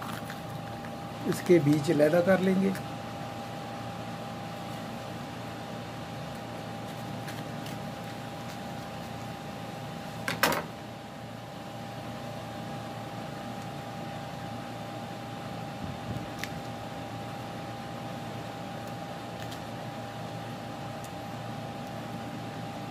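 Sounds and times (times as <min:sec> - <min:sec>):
steady hum: 0:00.0 - 0:22.9.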